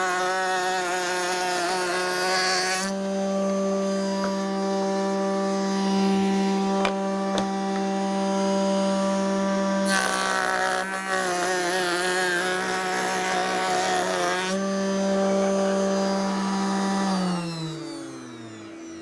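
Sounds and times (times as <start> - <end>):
router bit cutting board rasp: 0.0 - 19.0
router spinning with steady whine: 0.0 - 19.0.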